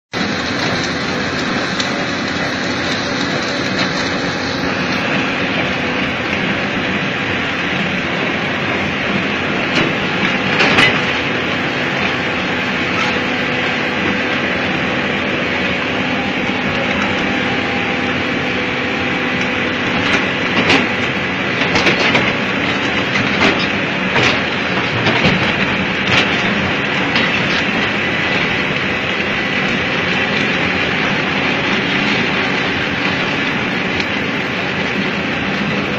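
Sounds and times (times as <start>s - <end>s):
low machine hum: 0.2s - 35.9s.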